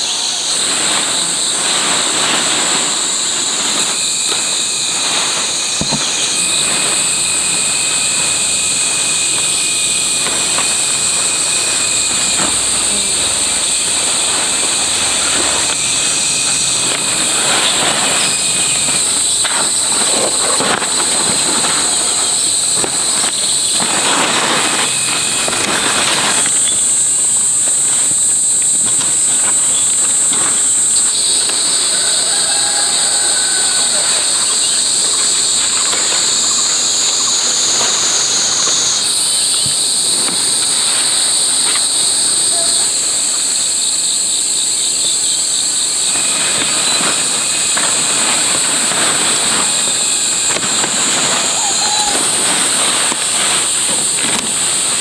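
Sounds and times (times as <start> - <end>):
insects droning: 0.0 - 55.0
rustling: 0.4 - 55.0.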